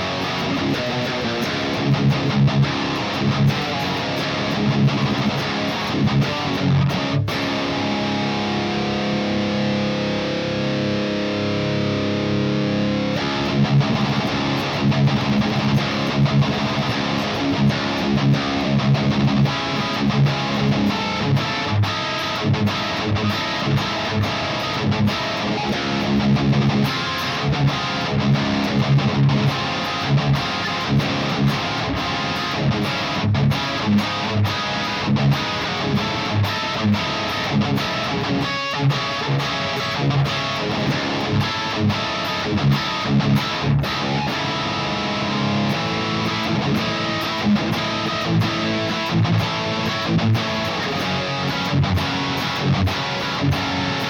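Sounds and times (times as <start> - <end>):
distorted electric guitar riffs: 0.0 - 54.0.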